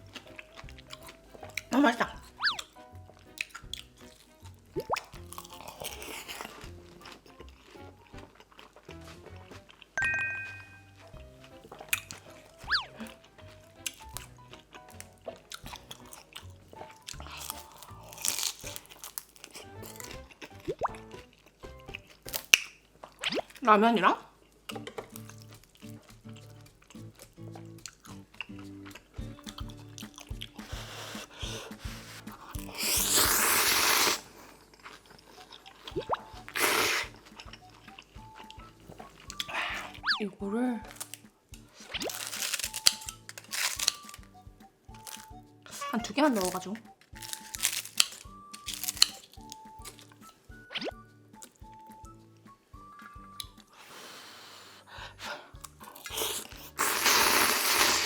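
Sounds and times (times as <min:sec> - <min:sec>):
close eating noises: 0:00.0 - 0:10.0, 0:10.8 - 0:40.2, 0:40.8 - 0:50.4, 0:53.1 - 0:58.0
crunching and chewing fried food: 0:00.0 - 0:10.0, 0:10.9 - 0:23.6, 0:24.2 - 0:40.2, 0:40.8 - 0:52.2, 0:53.0 - 0:58.0
soft background music: 0:00.0 - 0:58.0.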